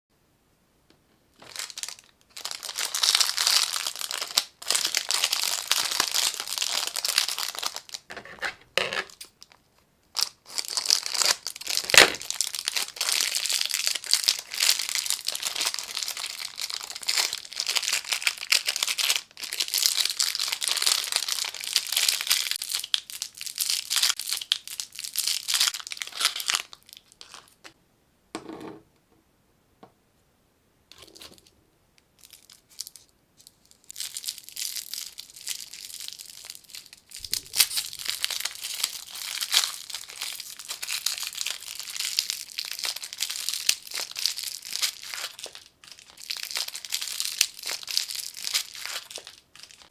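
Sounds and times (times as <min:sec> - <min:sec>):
plastic wrappers crinkling: 0:01.4 - 0:27.8, 0:32.2 - 0:49.9.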